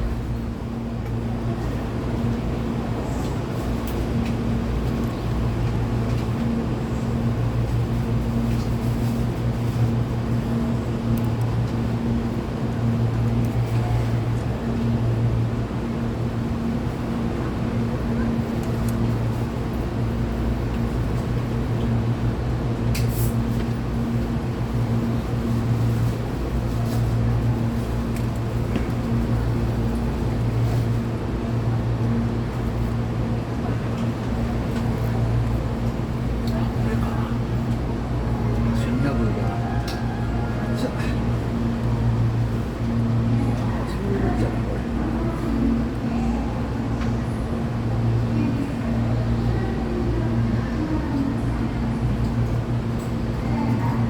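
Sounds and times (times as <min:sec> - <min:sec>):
higher intermittent hum: 0:00.0 - 0:54.0
train equipment low hum: 0:00.0 - 0:54.0.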